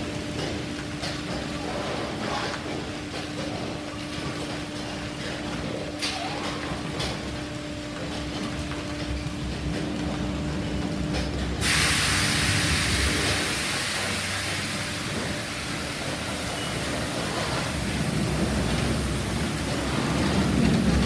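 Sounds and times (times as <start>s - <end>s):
low rumble of wash machinery: 0.0s - 21.0s.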